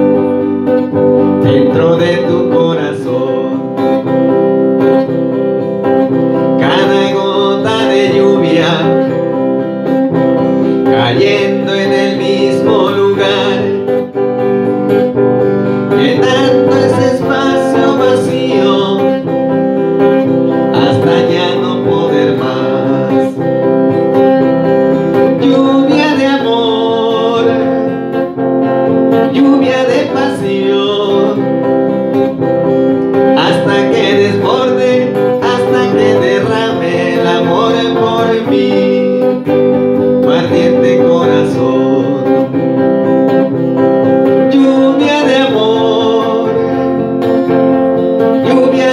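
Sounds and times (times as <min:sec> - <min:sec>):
electric guitar strumming: 0:00.0 - 0:48.9.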